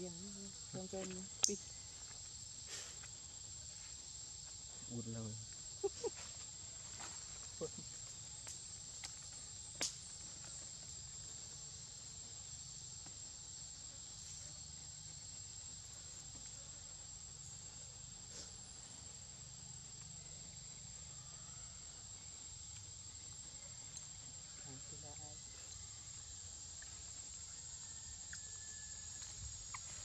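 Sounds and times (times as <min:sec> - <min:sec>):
faint forest hiss: 0:00.0 - 0:30.0
insects trilling: 0:00.0 - 0:30.0.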